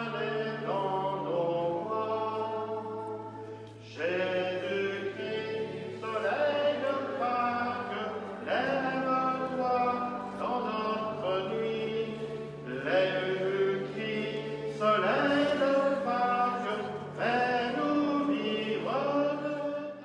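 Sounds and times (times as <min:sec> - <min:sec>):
church singing held notes: 0:00.0 - 0:20.0.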